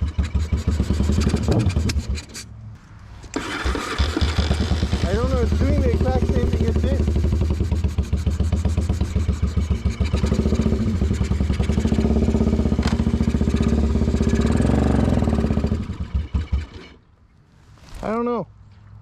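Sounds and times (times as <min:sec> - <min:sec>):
motorcycle engine running: 0:00.0 - 0:02.2, 0:03.4 - 0:16.9.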